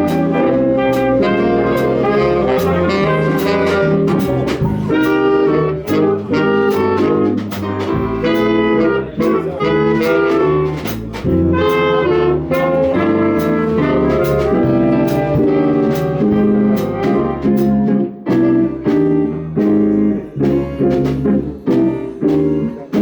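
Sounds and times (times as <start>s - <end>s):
saxophones and brass playing: 0.0s - 23.0s
walking bass: 0.0s - 23.0s.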